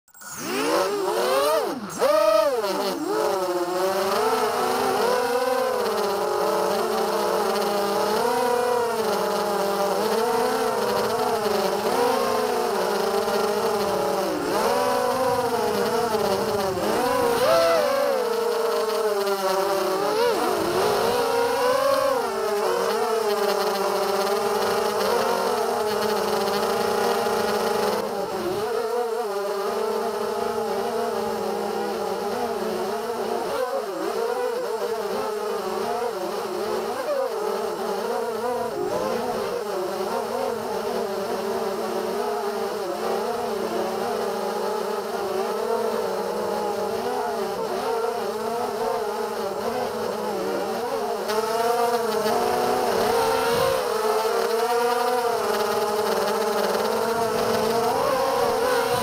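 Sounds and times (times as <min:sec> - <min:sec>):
quadcopter motors whining: 0:00.1 - 0:59.0.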